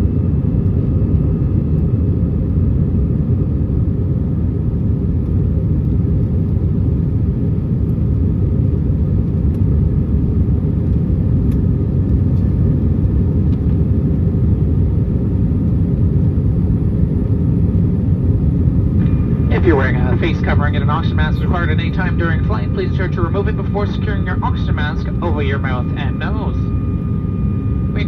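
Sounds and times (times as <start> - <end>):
aircraft cabin engine rumble: 0.0 - 28.0.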